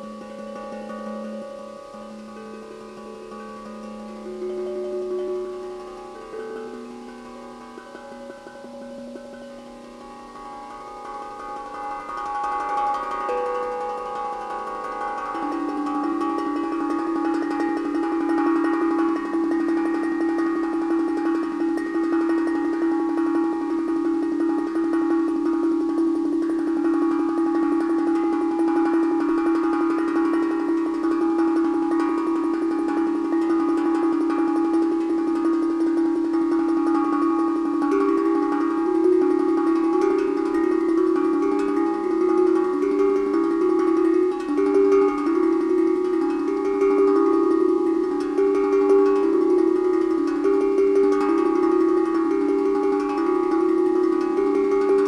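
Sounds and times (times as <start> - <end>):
steel tongue drum roll: 0.0 - 55.0.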